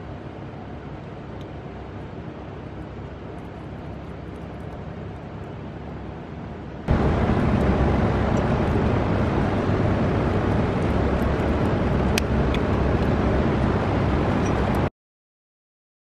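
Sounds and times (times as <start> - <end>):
low rumble of machinery: 0.0 - 14.9.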